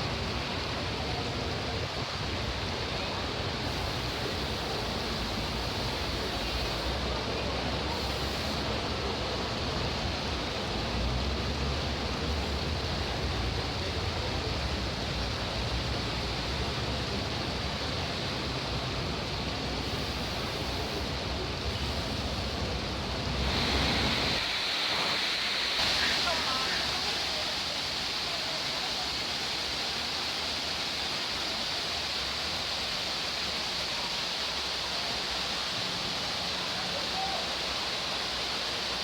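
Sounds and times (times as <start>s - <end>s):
heavy rain: 0.0s - 39.0s
running floodwater: 0.0s - 39.0s.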